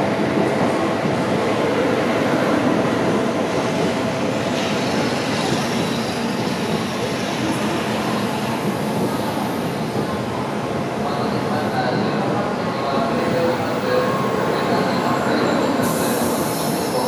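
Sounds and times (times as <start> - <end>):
train wheels on rails: 0.0 - 11.0, 12.9 - 17.0.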